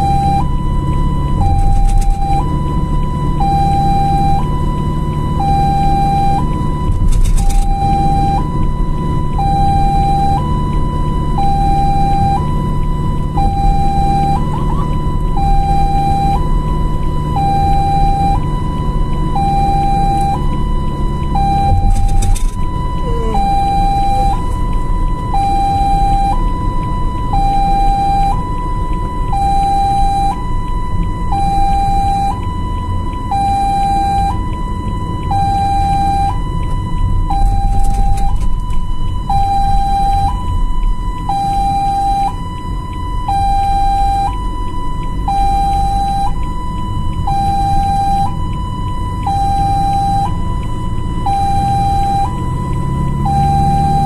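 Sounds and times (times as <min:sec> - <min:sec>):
ambulance siren two-tone wail: 0:00.0 - 0:54.0
engine and road rumble: 0:00.0 - 0:54.0.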